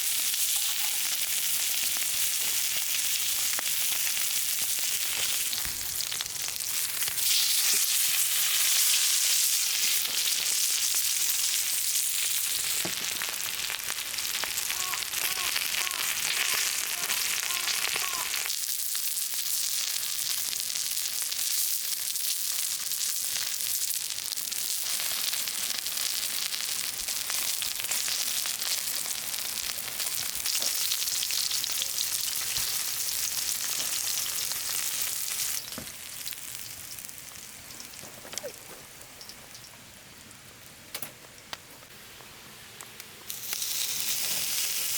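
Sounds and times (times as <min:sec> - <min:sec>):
food sizzling on a griddle: 0:00.0 - 0:38.0, 0:43.3 - 0:44.9.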